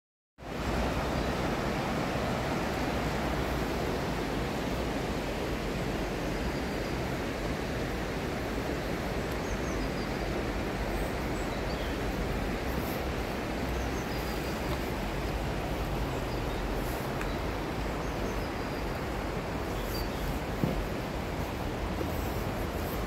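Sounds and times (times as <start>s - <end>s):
river rushing over stones: 0.4s - 23.0s.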